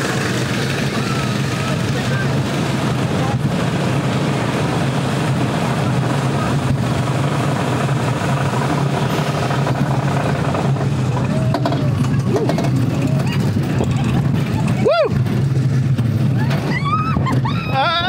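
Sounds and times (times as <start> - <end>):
roller coaster train on track: 0.0 - 18.0.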